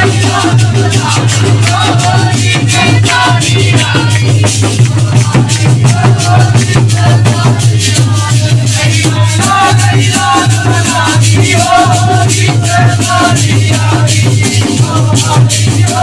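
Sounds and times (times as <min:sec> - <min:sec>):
jingling percussion: 0:00.0 - 0:16.0.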